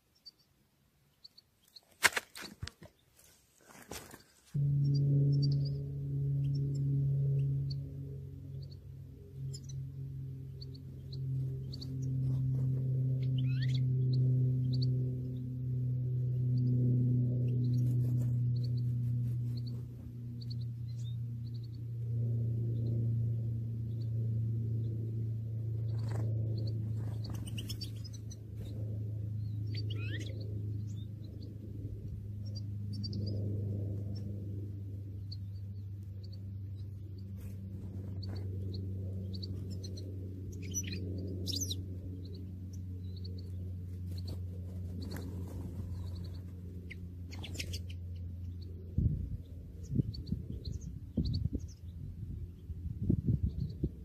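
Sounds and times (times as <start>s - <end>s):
small birds chirping: 0.0s - 2.0s, 4.0s - 54.0s
steady low hum: 0.0s - 54.0s.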